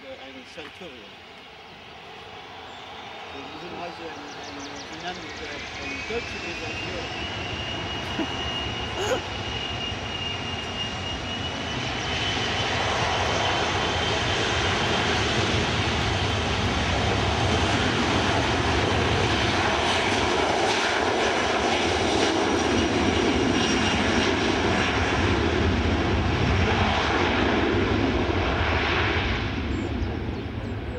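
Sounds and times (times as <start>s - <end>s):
jet engines at high power: 0.0s - 30.9s.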